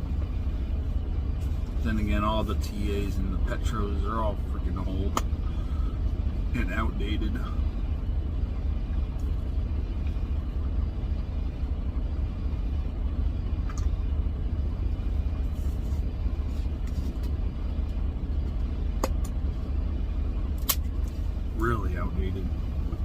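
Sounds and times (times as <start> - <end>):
road noise: 0.0 - 23.0
truck engine rumble: 0.0 - 23.0.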